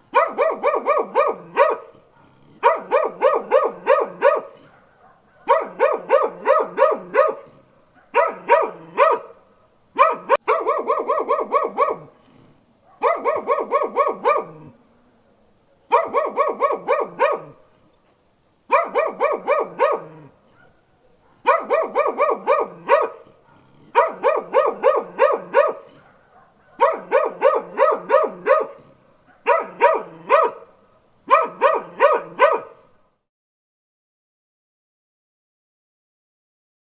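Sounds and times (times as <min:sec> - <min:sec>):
dog barking: 0:00.1 - 0:14.8, 0:15.6 - 0:17.6, 0:18.7 - 0:33.0.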